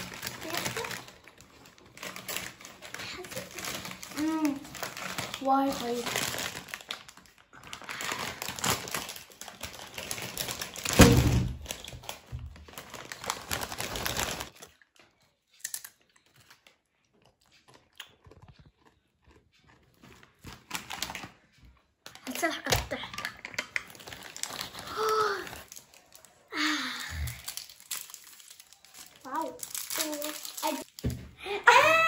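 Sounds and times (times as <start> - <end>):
plastic crisp bag crinkling: 0.0 - 16.6, 19.8 - 21.5, 22.2 - 32.0.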